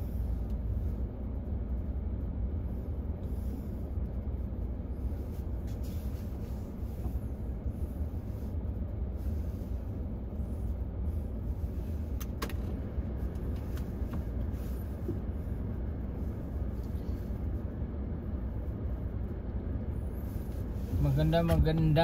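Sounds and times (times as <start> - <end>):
car idling inside cabin: 0.0 - 22.0.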